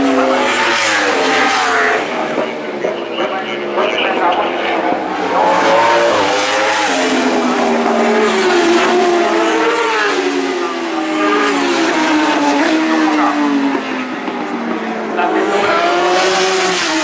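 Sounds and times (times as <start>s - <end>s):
racing motorcycles passing by: 0.0s - 17.0s.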